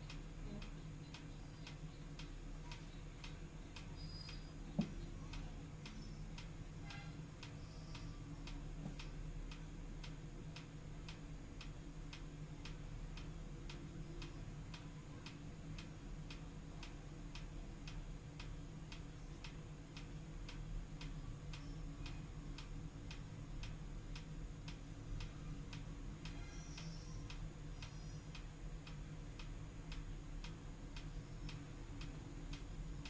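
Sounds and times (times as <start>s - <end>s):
steady ticking: 0.0s - 33.0s.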